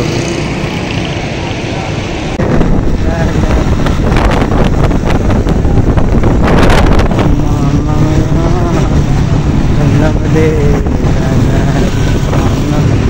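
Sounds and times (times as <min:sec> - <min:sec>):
vehicle road and engine noise: 0:00.0 - 0:13.0
wind buffeting microphone: 0:02.3 - 0:13.0.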